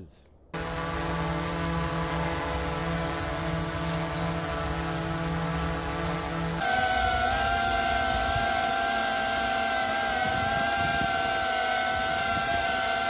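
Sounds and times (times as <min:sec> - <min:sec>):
drone hovering: 0:00.6 - 0:13.0
drone propellers whining: 0:00.6 - 0:13.0.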